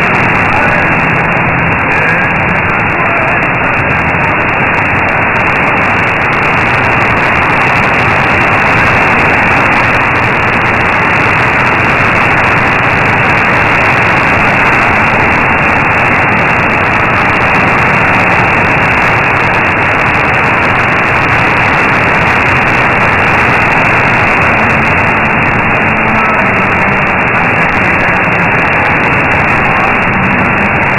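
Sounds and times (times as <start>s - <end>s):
shortwave radio static hiss: 0.0s - 30.9s.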